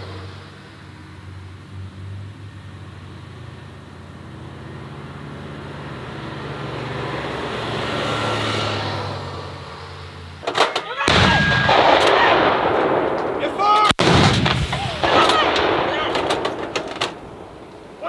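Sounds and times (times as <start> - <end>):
heavy vehicle engine humming: 0.0 - 13.5, 14.4 - 18.0
tyres on sand and gravel: 0.0 - 18.0.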